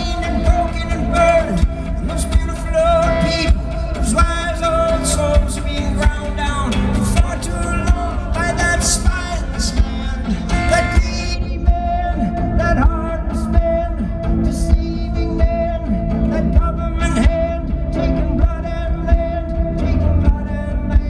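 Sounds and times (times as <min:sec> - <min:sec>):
live band instrumental music: 0:00.0 - 0:21.0
steady drum beat: 0:00.0 - 0:21.0.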